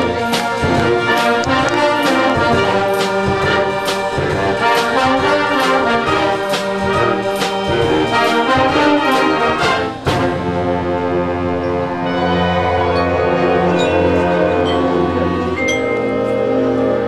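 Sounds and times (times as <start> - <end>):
percussion accents: 0.0 - 17.0.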